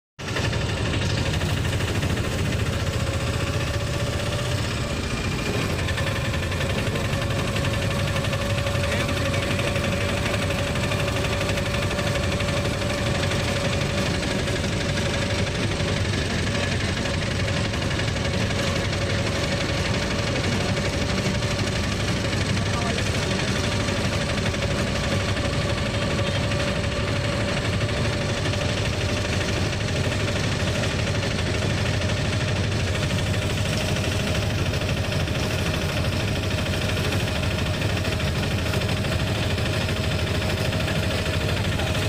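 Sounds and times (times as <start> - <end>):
auto-rickshaw engine pulsing: 0.2 - 42.0.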